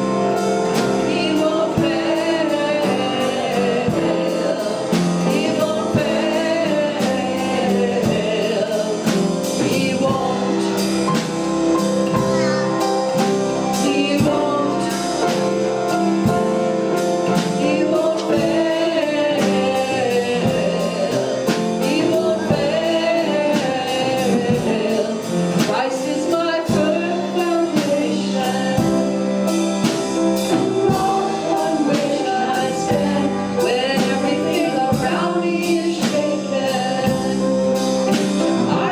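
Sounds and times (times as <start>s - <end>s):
singers singing: 0.0s - 38.9s
steady drum beat: 0.0s - 38.9s
worship band playing: 0.0s - 38.9s.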